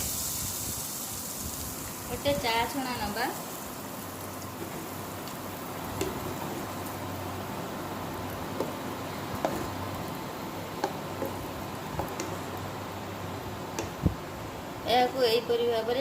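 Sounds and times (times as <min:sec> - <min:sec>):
batter sizzling in hot oil: 0:00.0 - 0:14.8.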